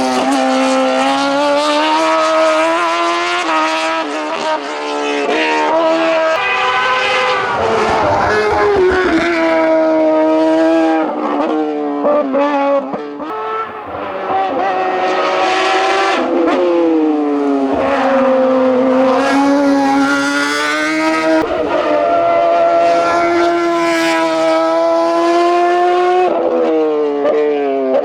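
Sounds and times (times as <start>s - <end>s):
car engine revving hard: 0.0s - 10.8s, 13.2s - 26.3s.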